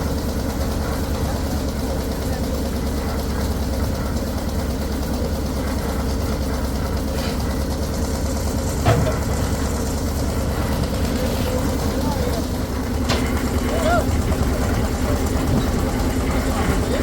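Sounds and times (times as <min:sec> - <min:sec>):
heavy engine running: 0:00.0 - 0:17.0.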